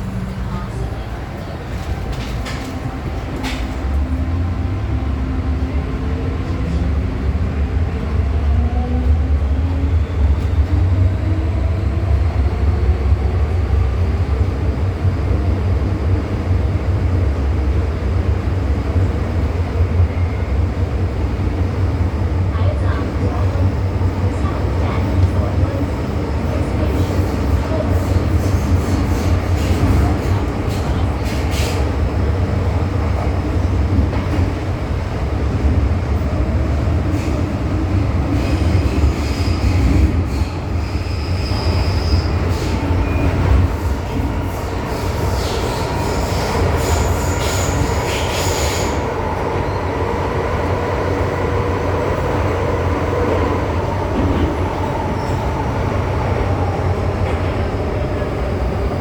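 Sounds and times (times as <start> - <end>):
rumble of wheels on rail: 0.0 - 59.0.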